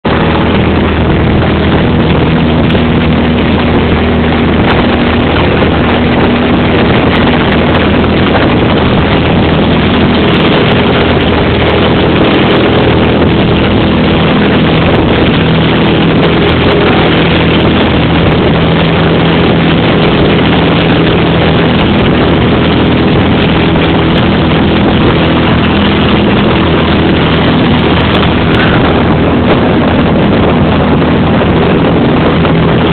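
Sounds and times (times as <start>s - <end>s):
propeller plane engine drone: 0.0s - 32.9s.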